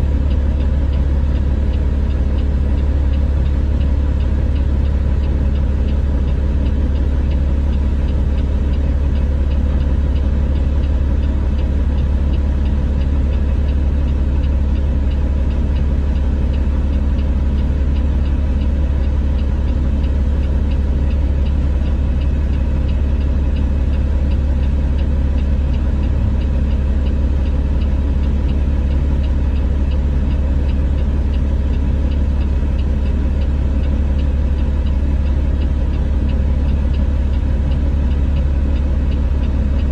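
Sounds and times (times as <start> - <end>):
diesel machinery engines rumbling: 0.0 - 39.9.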